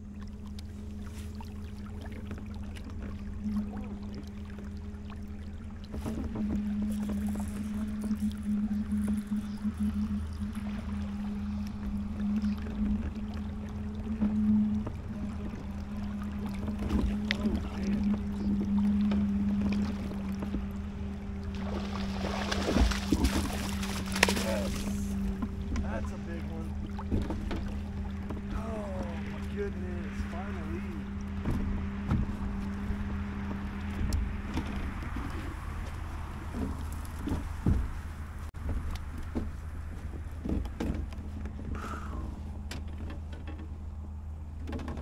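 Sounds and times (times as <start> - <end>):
small boat motor humming: 0.0 - 45.0
water lapping against hull: 0.0 - 45.0.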